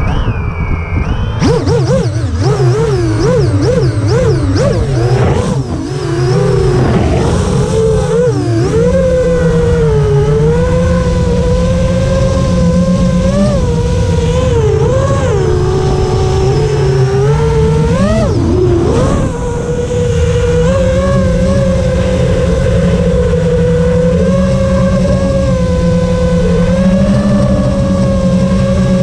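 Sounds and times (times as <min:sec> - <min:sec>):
drone motors whining: 0:00.0 - 0:29.0
wind rumble on microphone: 0:00.0 - 0:29.0.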